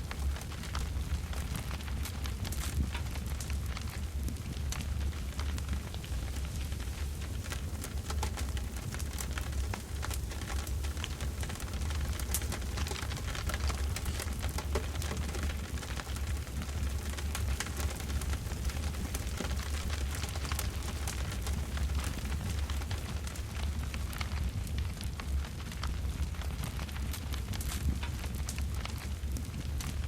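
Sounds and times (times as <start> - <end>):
campfire crackling and popping: 0.0 - 30.0
low fire rumble: 0.0 - 30.0.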